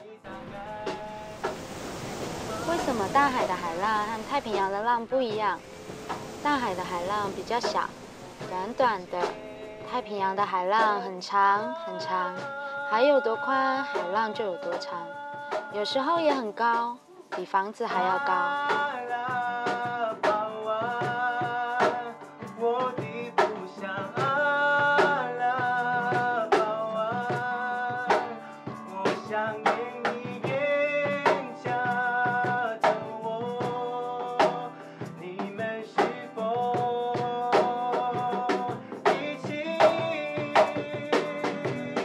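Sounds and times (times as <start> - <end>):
song with drum beat: 0.0 - 42.0.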